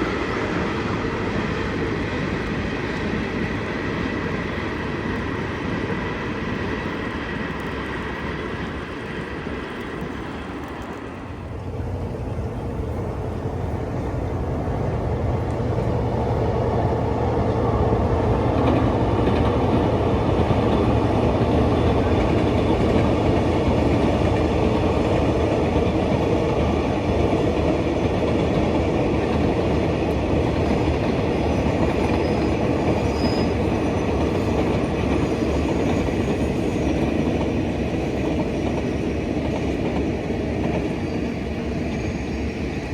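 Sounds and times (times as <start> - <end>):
train passing: 0.0 - 42.9.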